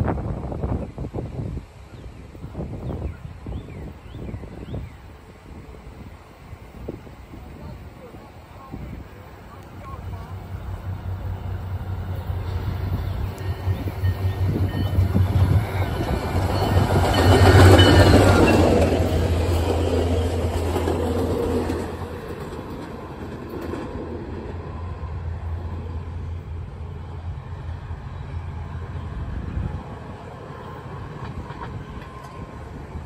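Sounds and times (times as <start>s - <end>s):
diesel train engine drone: 0.0s - 33.0s
train wheels rolling on rails: 2.4s - 33.0s.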